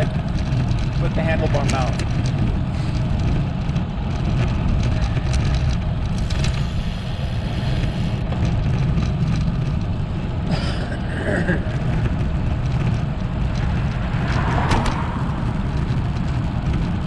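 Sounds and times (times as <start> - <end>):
road and tyre noise: 0.0 - 17.0
wind rushing over microphone: 0.0 - 17.0.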